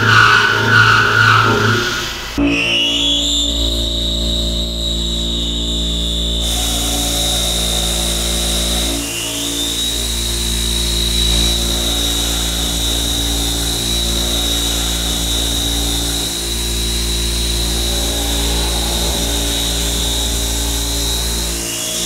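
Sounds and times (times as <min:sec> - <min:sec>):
high-pitched metal cutting whine: 0:00.0 - 0:22.0
spindle drone: 0:00.0 - 0:22.0.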